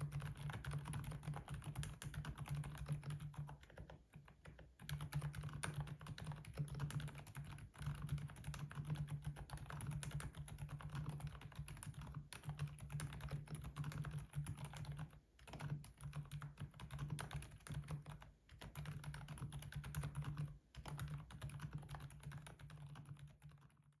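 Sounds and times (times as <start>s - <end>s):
fast keyboard typing: 0.0s - 24.0s.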